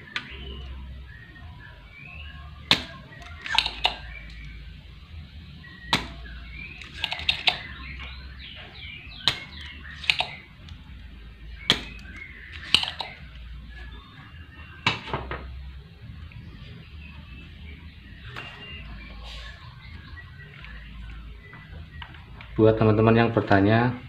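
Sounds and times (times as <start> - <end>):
faint high chirps: 0.0 - 24.0
low steady hum: 0.0 - 24.0.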